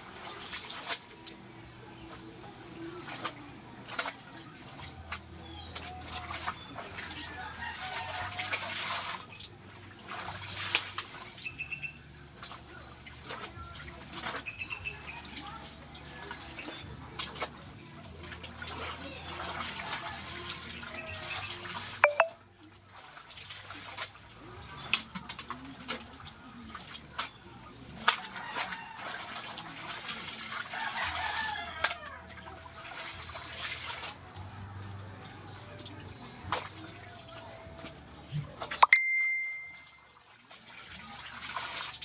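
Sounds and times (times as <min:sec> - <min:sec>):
wet clothes splashing in water: 0:00.0 - 0:42.0.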